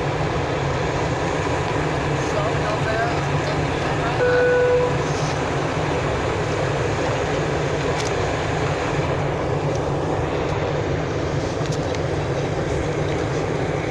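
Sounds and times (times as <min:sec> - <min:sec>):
airliner cabin engine rumble: 0:00.0 - 0:13.9.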